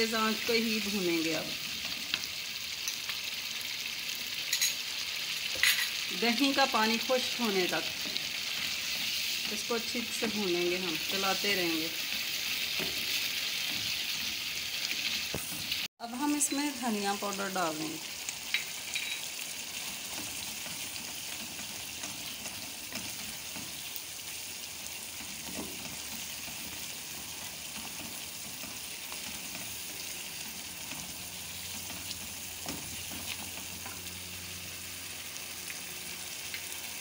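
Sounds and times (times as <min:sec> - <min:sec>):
curry sizzling in a pan: 0:00.0 - 0:37.0.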